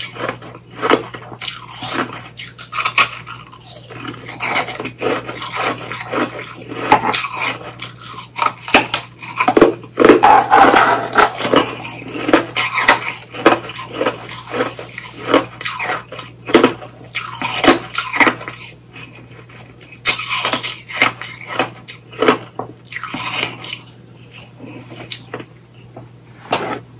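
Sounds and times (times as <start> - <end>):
ice being chewed: 0.0 - 25.9.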